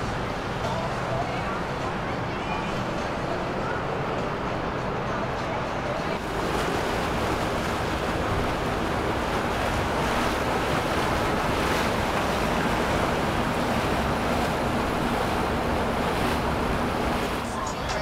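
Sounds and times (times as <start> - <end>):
low boat engine hum: 0.0 - 18.0
rushing water: 0.0 - 18.0.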